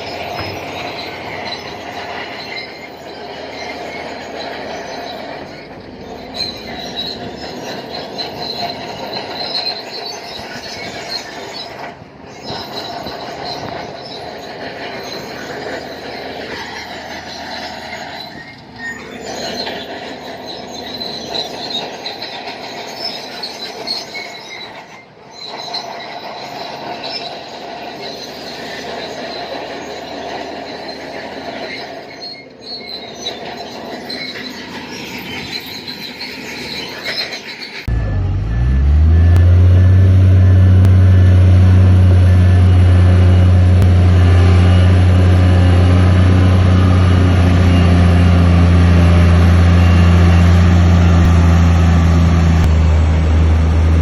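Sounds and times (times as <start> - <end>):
bulldozer engine noise: 0.0 - 54.0
bulldozer tracks squealing and clanking: 0.0 - 54.0.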